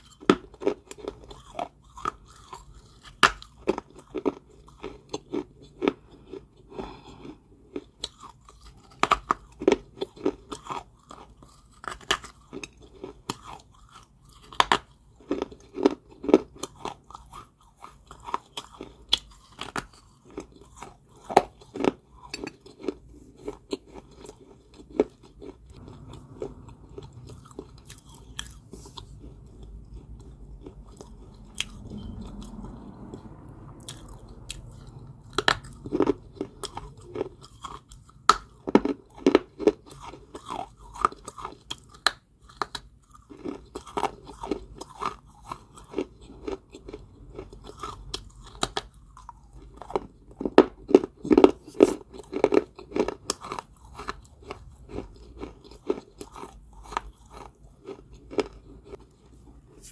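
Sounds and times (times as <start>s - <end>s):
soft chewing: 0.0s - 59.9s.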